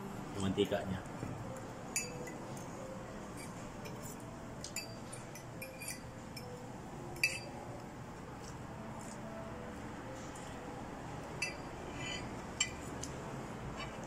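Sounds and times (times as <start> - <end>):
restaurant room hum: 0.0 - 14.0.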